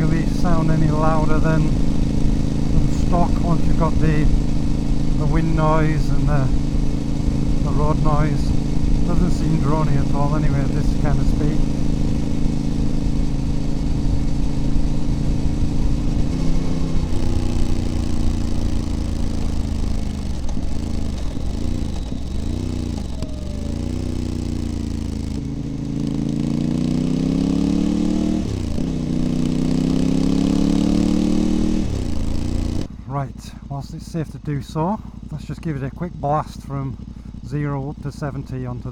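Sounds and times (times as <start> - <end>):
motorcycle engine exhaust: 0.0 - 38.9.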